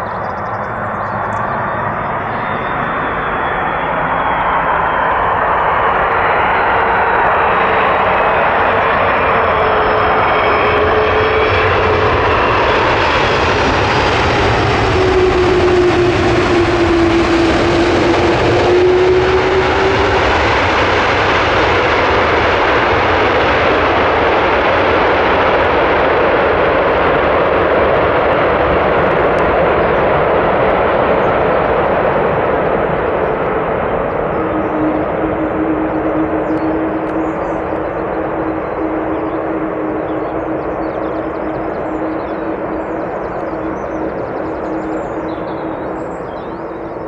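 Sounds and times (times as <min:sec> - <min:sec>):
engine whine falling in pitch: 0:00.0 - 0:24.2, 0:28.2 - 0:47.0
jet engines rushing: 0:00.0 - 0:47.0.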